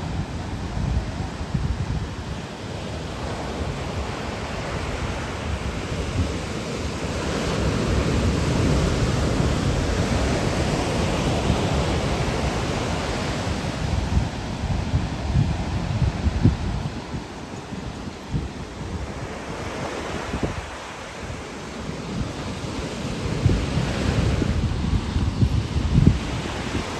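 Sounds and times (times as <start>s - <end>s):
ocean surf washing on shore: 0.0s - 26.9s
wind rumbling on microphone: 0.0s - 26.9s.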